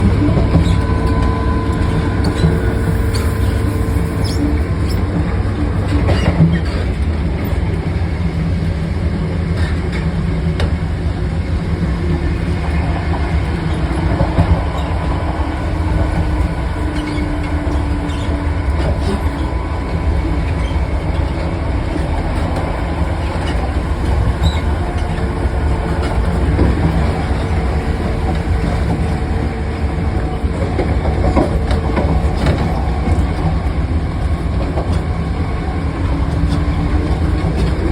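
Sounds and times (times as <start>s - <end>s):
diesel engine low drone: 0.0s - 37.9s
moving train running noise: 0.0s - 37.9s.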